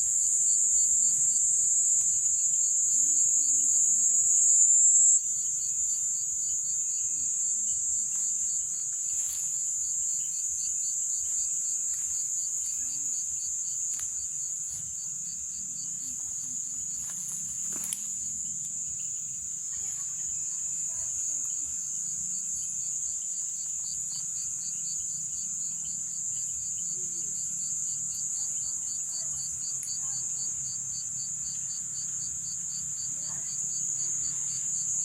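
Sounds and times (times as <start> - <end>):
high-pitched insect trill: 0.0 - 35.0
rapidly pulsing insect call: 0.0 - 35.0.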